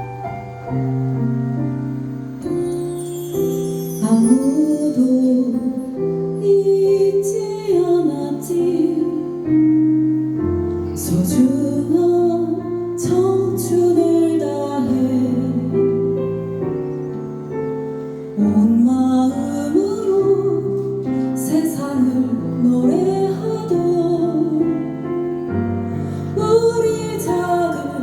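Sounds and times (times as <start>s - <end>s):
piano accompaniment: 0.0s - 28.0s
person singing slow song: 2.4s - 17.2s, 18.2s - 28.0s.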